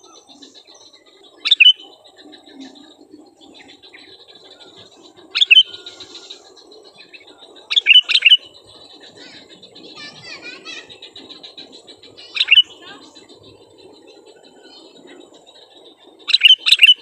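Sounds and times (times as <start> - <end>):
bird twittering: 0.0 - 17.0
sharp bird calls: 0.0 - 17.0
wavering bird warble: 0.0 - 17.0.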